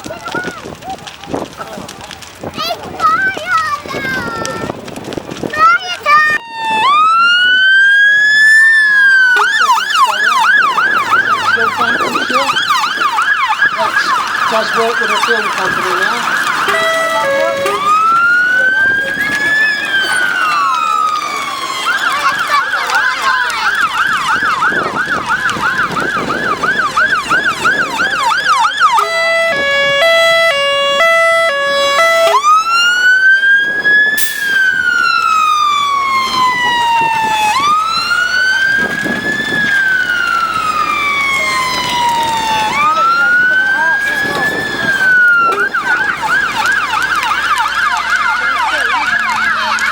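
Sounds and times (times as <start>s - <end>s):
electronic siren wailing and yelping: 6.3s - 22.9s, 23.8s - 49.9s.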